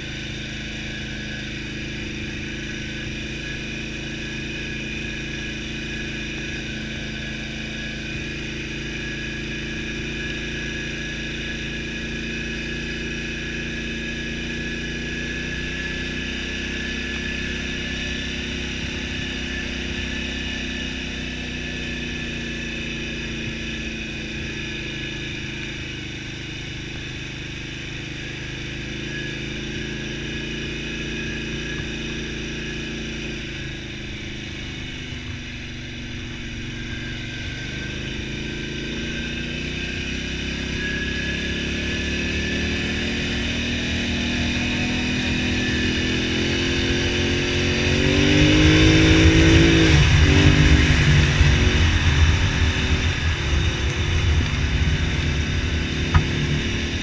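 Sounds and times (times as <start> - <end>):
atv engine running: 0.0 - 57.0
high whine: 0.0 - 57.0.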